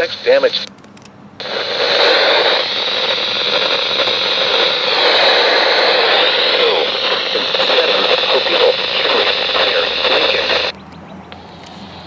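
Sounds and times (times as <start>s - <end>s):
faint broadcast voice: 0.0s - 0.7s, 1.4s - 10.7s
radio static hiss: 0.0s - 0.7s, 1.4s - 10.7s.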